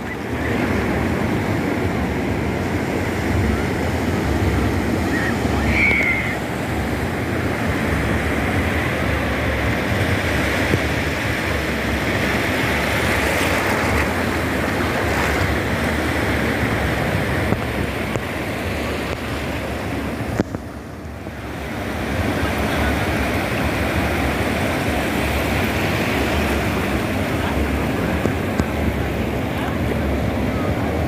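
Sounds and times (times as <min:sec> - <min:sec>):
small waves breaking on beach: 0:00.0 - 0:31.0.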